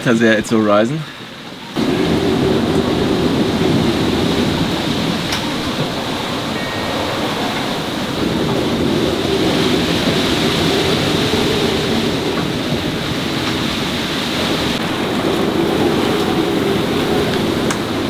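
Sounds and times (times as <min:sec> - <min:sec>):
rough sea rushing: 0:00.0 - 0:18.0
strong wind: 0:00.0 - 0:18.0
wind buffeting microphone: 0:01.3 - 0:18.0.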